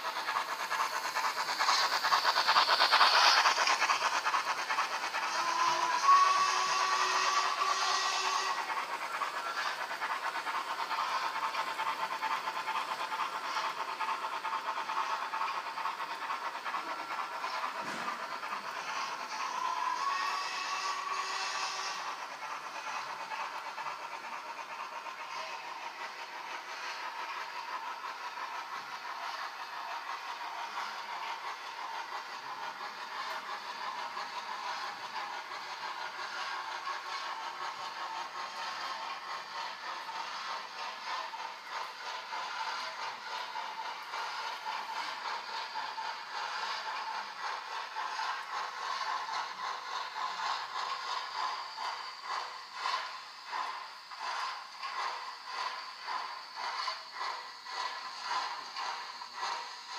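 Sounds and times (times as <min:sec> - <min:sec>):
hiss of running model train: 0:00.0 - 0:59.9
rhythmic steam chuff: 0:00.0 - 0:59.9.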